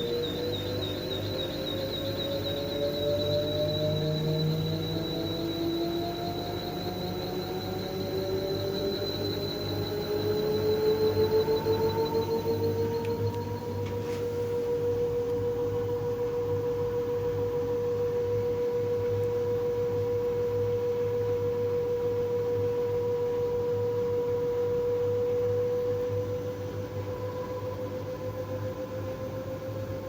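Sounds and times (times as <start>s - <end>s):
low motor hum: 0.0s - 30.0s
washing machine high-pitched squeal: 0.0s - 30.0s.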